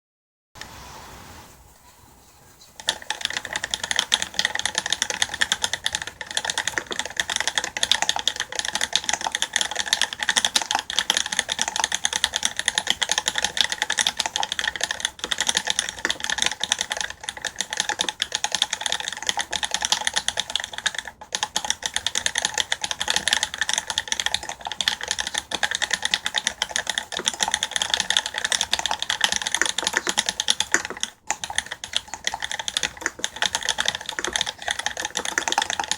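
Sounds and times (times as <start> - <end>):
mechanical keyboard typing: 2.8 - 35.9.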